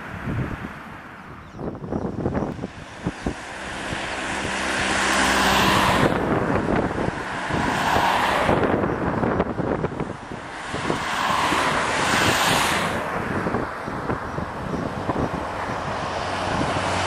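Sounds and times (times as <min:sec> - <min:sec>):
airliner jet engines roaring: 0:00.0 - 0:17.0
wind buffeting microphone: 0:00.0 - 0:17.0.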